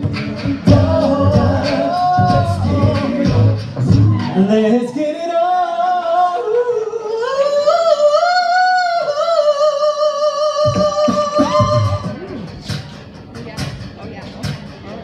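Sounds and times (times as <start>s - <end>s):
a cappella group singing harmony: 0.0s - 12.2s
low vocal percussion beats: 0.0s - 15.0s.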